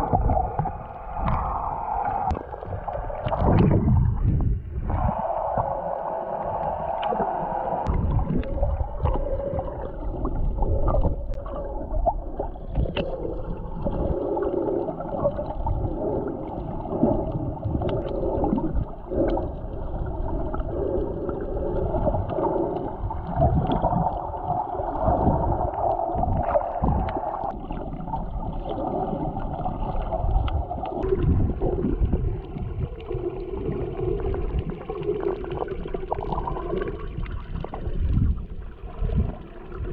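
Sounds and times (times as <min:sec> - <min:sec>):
water gurgling underwater: 0:00.0 - 0:39.9.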